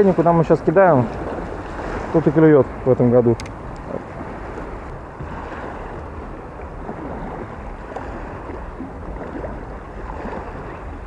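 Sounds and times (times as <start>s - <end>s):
waves lapping against concrete: 0.0s - 11.0s
wind on microphone: 0.0s - 11.0s.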